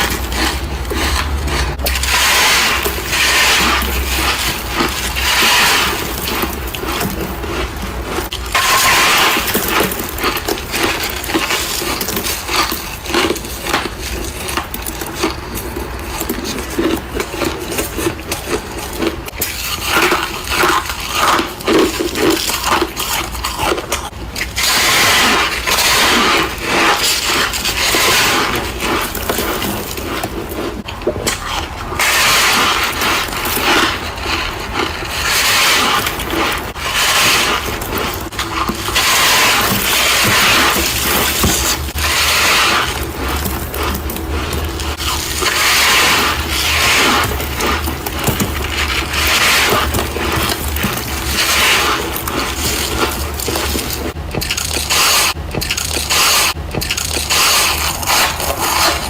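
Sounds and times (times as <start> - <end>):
frost crunching and scraping: 0.0 - 59.0.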